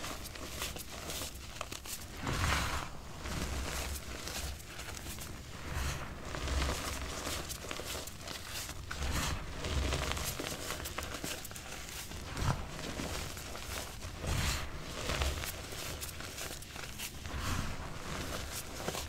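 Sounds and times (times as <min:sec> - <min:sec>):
chalk crunching in hands: 0:00.0 - 0:19.0.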